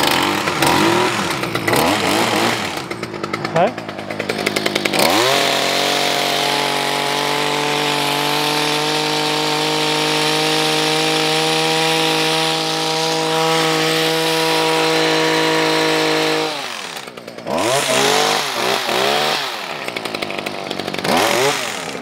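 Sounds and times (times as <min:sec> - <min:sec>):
hedge trimmer engine running: 0:00.0 - 0:22.0.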